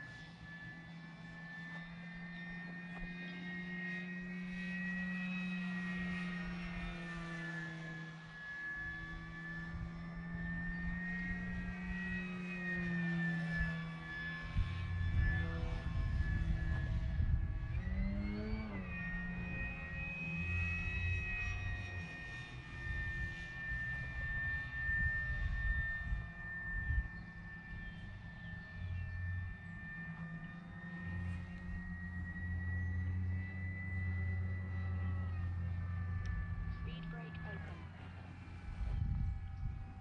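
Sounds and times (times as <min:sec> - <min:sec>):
model plane motor whining: 0:00.0 - 0:40.0.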